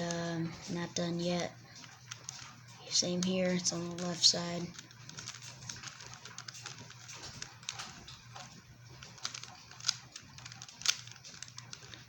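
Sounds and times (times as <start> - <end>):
rubik's cube plastic clicks: 0.0 - 12.0
sharp plastic clacks: 1.7 - 12.0.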